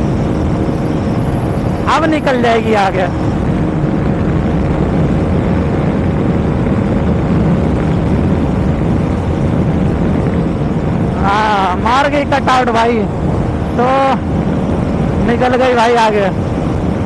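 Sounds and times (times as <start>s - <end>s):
motorcycle engine at full throttle: 0.0s - 17.0s
wind on microphone: 0.0s - 17.0s.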